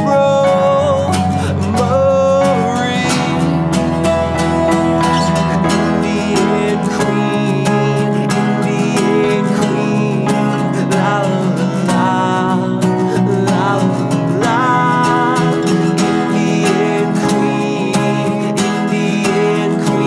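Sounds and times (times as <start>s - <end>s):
acoustic guitar strumming: 0.0s - 20.0s
person singing: 0.0s - 20.0s
piano playing chords: 0.0s - 20.0s.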